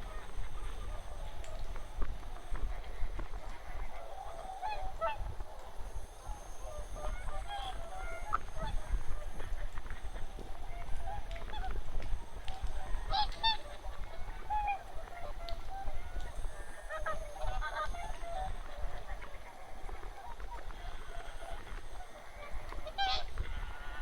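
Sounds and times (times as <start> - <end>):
geese and swans honking: 0.0 - 24.0.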